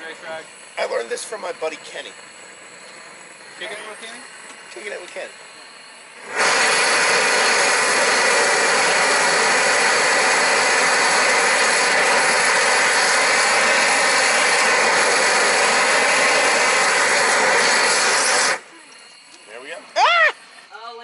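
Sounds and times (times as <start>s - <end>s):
propane torch jet flame: 0.0s - 21.0s.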